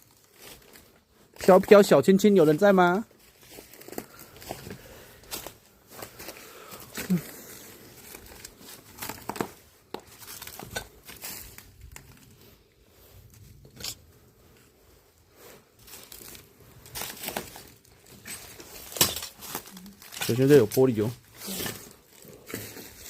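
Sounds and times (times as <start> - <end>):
footsteps crunching on broken glass: 0.0 - 11.8, 15.8 - 23.0.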